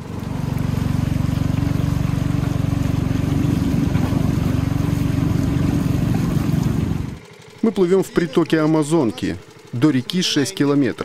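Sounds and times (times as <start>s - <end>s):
boat motor puttering: 0.0s - 11.0s.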